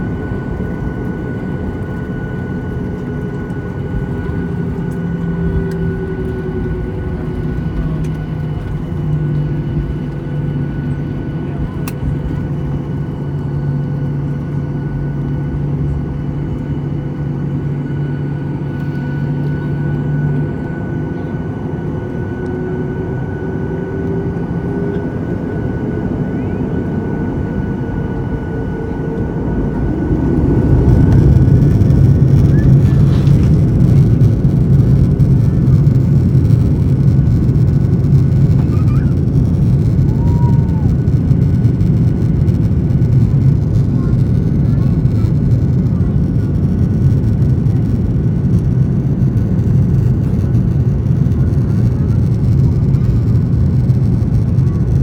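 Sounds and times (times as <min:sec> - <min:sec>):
held engine tones: 0:00.0 - 0:55.0
jet engines running: 0:00.0 - 0:55.0.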